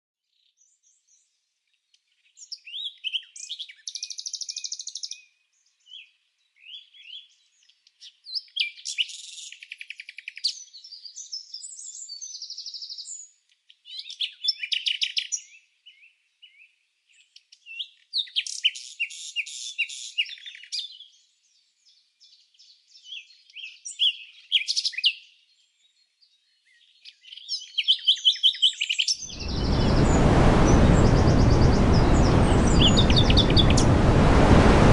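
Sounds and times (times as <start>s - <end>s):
songbird chirping and trilling: 0.3s - 34.0s.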